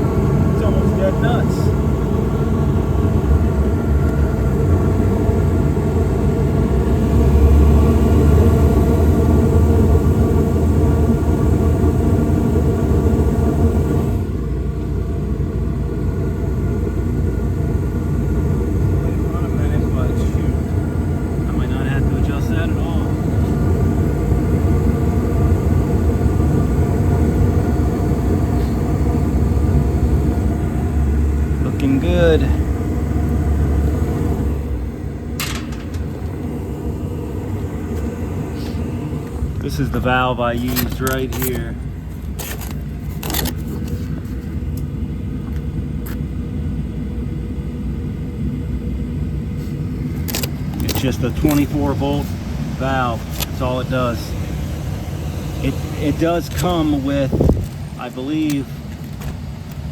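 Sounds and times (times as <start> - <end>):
fans running: 0.0 - 59.9
low hum: 0.0 - 59.9
low rumble of burner flame: 0.0 - 59.9.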